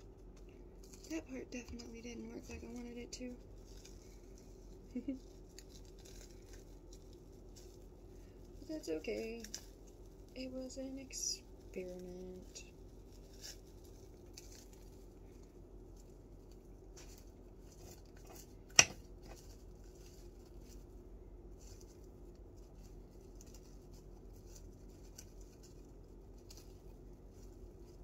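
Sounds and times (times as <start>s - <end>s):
plastic wrap crinkling: 0.2s - 28.0s.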